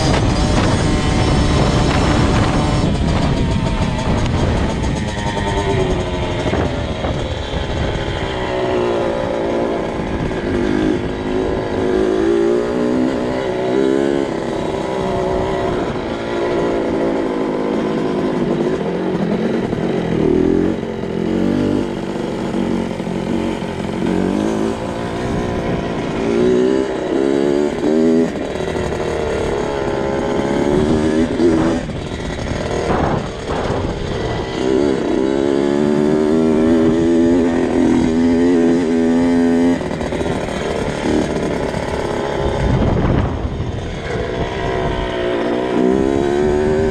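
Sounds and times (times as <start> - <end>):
two-stroke motorcycle engine revving: 0.0 - 46.9.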